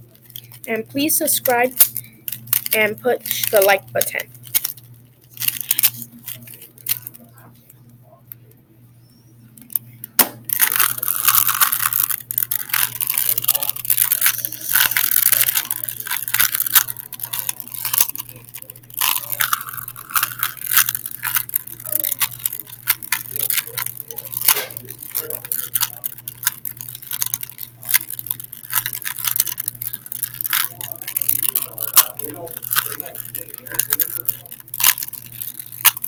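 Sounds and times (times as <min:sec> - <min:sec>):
steady low hum: 0:00.0 - 0:36.0
plastic puzzle cube clicking: 0:01.4 - 0:07.2, 0:09.7 - 0:36.0.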